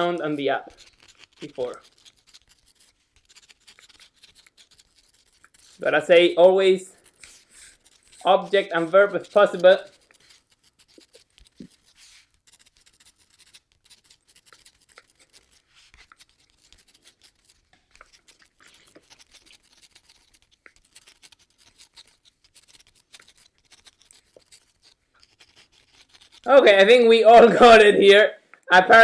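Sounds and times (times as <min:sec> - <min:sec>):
pen scratching while writing: 0:00.0 - 0:28.2.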